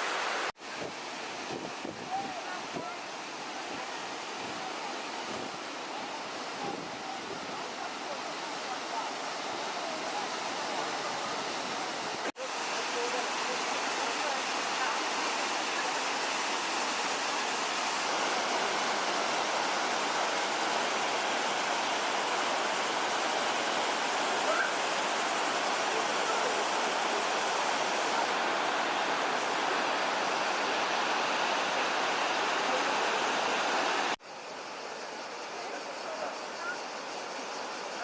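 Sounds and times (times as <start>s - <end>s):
waterfall rushing: 0.0s - 34.2s.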